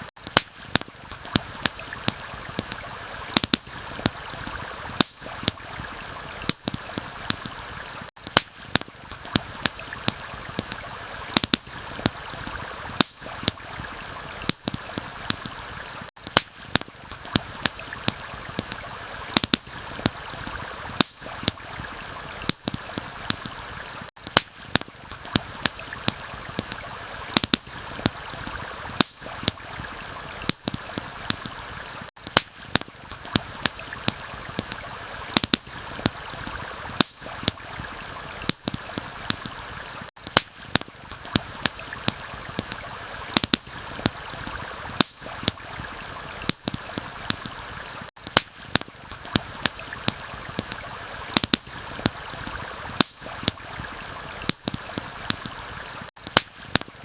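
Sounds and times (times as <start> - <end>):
campfire popping and crackling: 0.0 - 57.0
flowing stream: 0.0 - 57.0.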